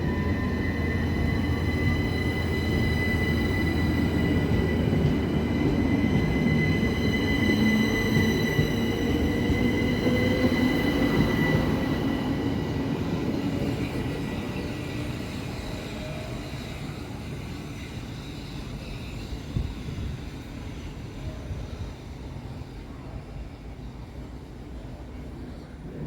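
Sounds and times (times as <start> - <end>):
train high whining tones: 0.0 - 24.6
electric train rumbling: 0.0 - 26.0.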